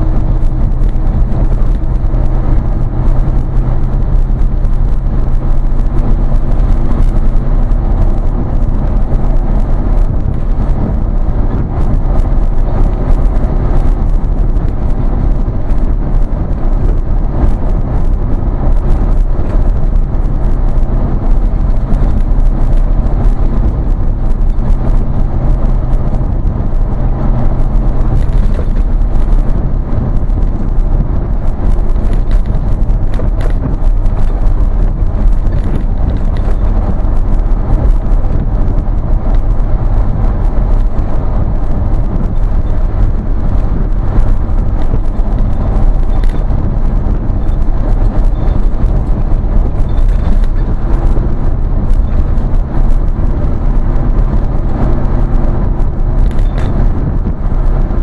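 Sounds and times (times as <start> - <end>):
engine and exhaust drone: 0.0 - 58.0
road and wind noise: 0.0 - 58.0.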